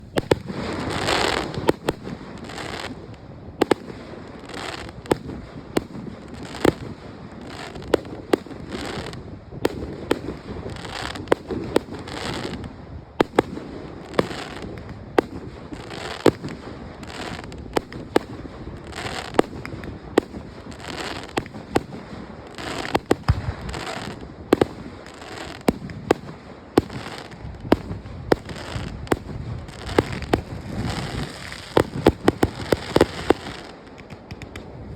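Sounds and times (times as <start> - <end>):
fireworks bursting with sharp bangs: 0.0 - 34.9.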